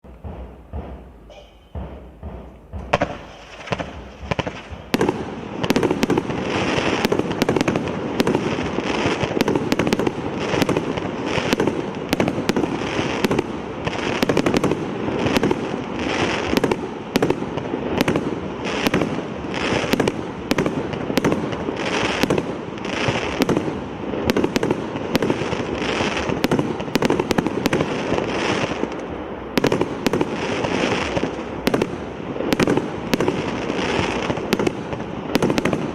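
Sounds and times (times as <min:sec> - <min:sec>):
firework cake barrage: 0:00.0 - 0:35.9.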